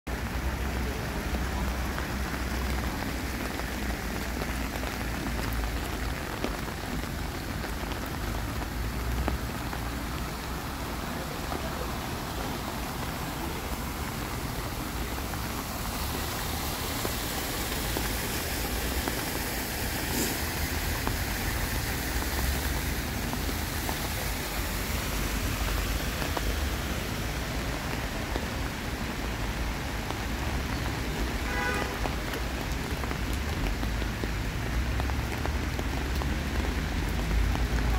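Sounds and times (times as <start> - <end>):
rain pattering on paving: 0.1 - 37.9.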